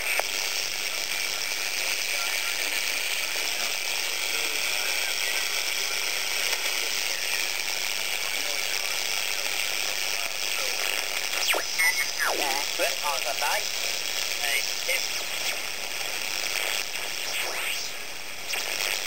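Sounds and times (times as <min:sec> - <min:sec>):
radio receiver hiss: 0:00.0 - 0:19.0.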